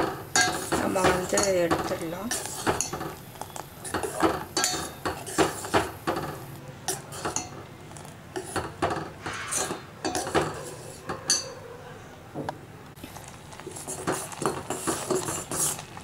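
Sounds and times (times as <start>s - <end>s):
spoon scraping and clinking in pot: 0.0s - 11.6s, 13.7s - 15.9s.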